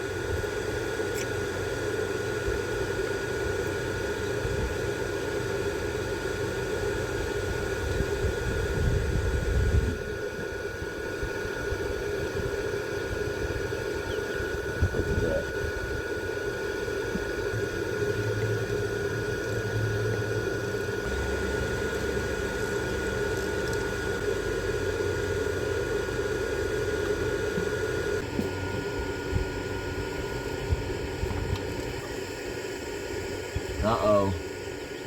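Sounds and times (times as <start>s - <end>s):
electric fan running: 0.0s - 35.0s.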